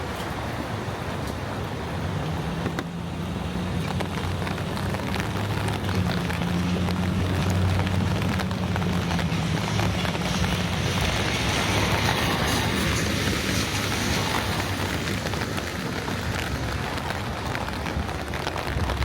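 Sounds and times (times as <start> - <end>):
outdoor noise: 0.0 - 19.0
vehicle engine low hum: 0.0 - 19.0.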